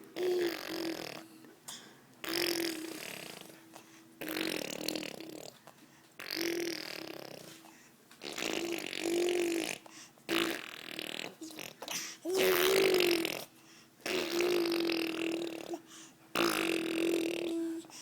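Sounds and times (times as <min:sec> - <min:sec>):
baby blowing raspberries: 0:00.0 - 0:05.6, 0:06.2 - 0:07.6, 0:08.2 - 0:18.0.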